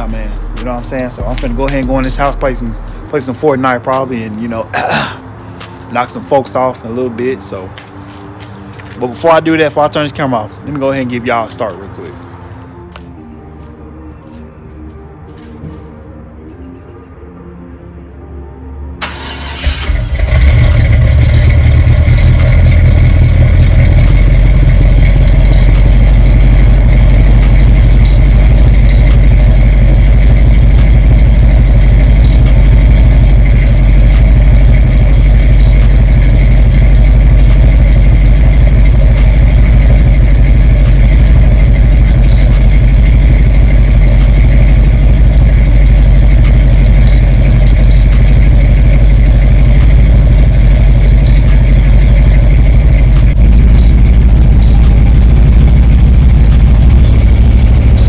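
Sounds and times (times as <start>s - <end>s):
car engine starting and idling: 0.0s - 12.7s, 19.0s - 58.0s.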